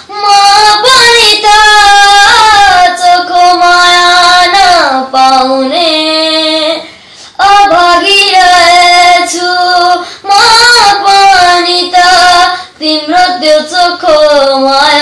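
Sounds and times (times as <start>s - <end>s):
boy singing: 0.0s - 15.0s.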